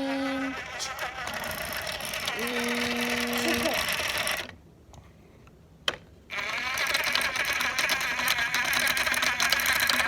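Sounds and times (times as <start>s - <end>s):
fast rattling whir: 0.0s - 4.6s, 6.3s - 10.0s.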